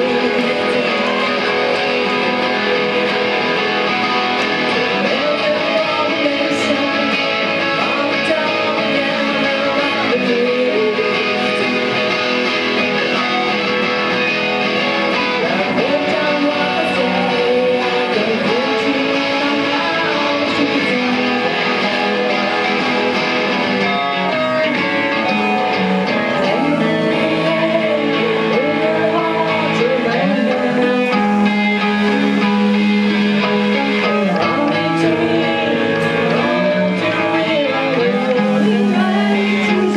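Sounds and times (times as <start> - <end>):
electric guitars strummed loudly: 0.0 - 39.9.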